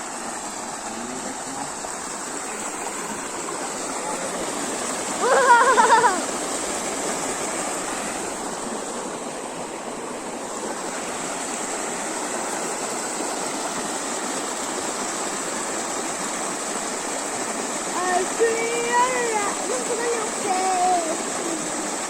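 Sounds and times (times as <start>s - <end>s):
water pouring over waterfall: 0.0s - 22.0s.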